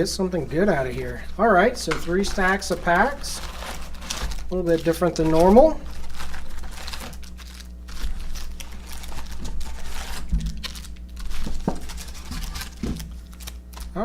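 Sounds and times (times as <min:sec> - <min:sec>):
wrappers crinkling and rustling: 0:00.0 - 0:14.0.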